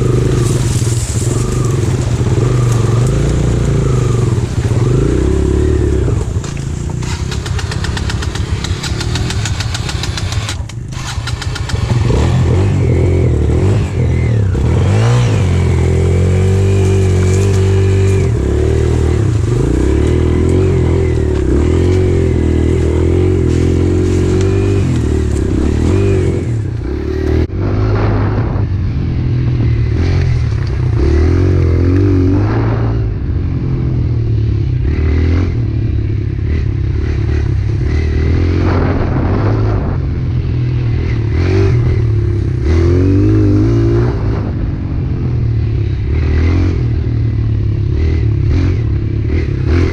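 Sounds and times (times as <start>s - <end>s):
pit bike engine revving: 0.0s - 28.6s, 29.6s - 49.9s.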